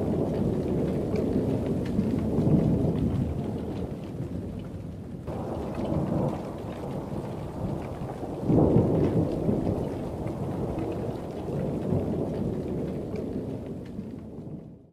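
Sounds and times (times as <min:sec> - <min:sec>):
thunder rumbling: 0:00.0 - 0:14.8
rain falling: 0:00.0 - 0:14.9.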